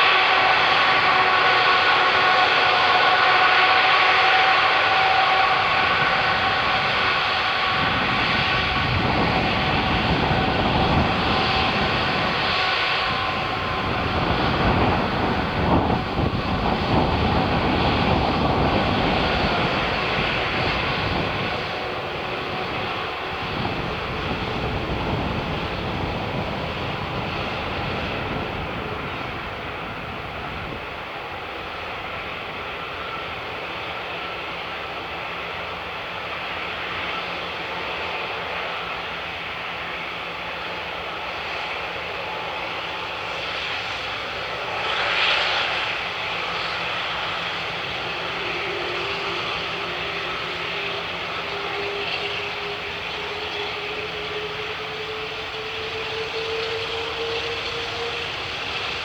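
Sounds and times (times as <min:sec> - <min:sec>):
jet engine rumble: 0:00.0 - 0:59.0
jet engine whine: 0:00.0 - 0:59.0.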